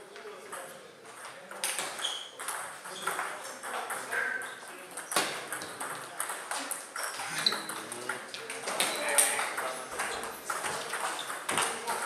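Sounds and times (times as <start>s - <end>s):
people talking: 0.0s - 12.0s.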